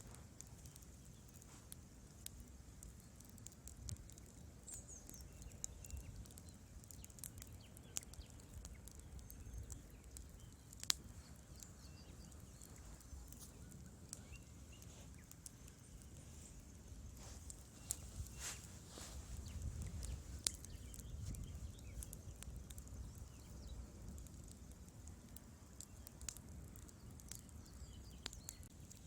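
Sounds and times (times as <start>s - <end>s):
low rumble of flame: 0.0s - 29.0s
wood fire crackling and popping: 0.0s - 29.0s.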